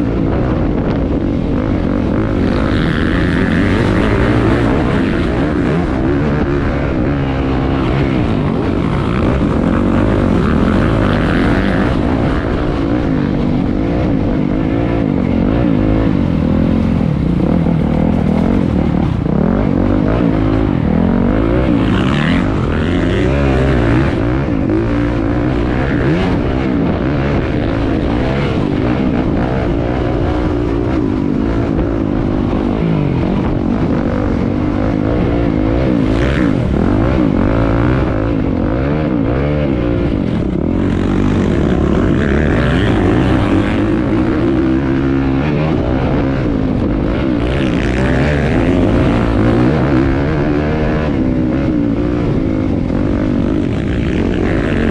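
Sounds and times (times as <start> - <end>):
dirt bike engines roaring: 0.0 - 54.9.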